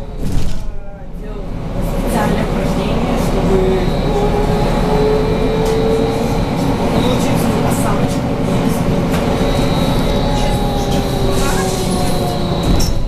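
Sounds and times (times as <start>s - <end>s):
road rumble: 0.0s - 13.0s.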